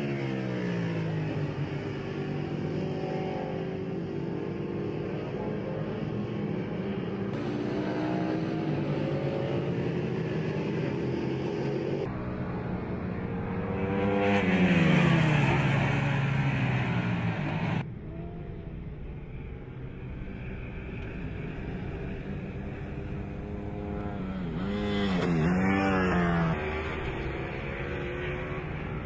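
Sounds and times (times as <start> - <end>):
motorcycle passing close by: 0.0 - 17.8, 20.9 - 29.0.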